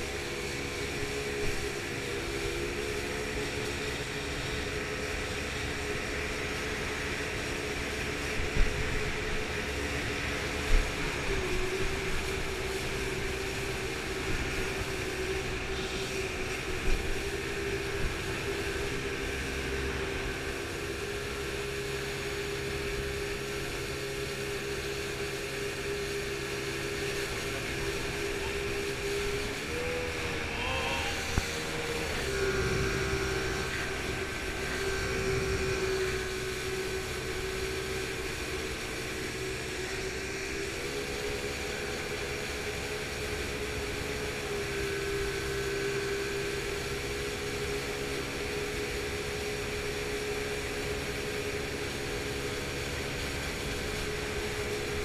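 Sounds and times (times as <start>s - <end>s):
motorboat engine running: 0.0s - 55.0s
rushing water and air: 0.0s - 55.0s.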